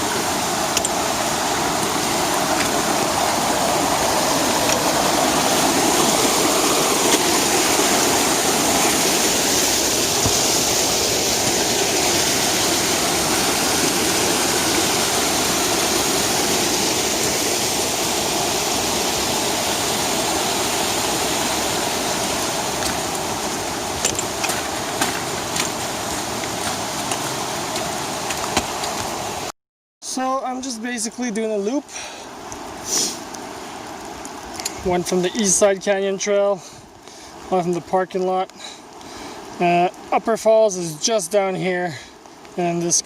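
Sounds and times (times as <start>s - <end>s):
creek rushing: 0.0s - 43.0s.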